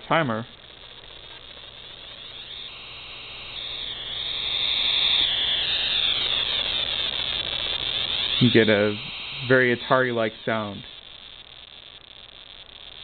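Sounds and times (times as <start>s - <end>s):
buzzy electronic noise from speaker: 0.0s - 13.0s.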